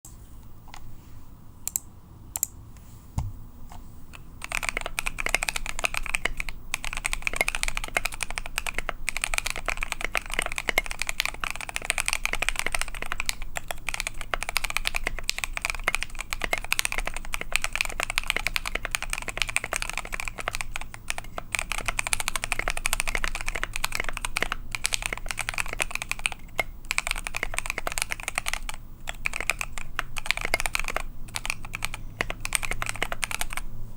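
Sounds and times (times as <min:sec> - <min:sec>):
mechanical keyboard typing: 0:04.1 - 0:33.7.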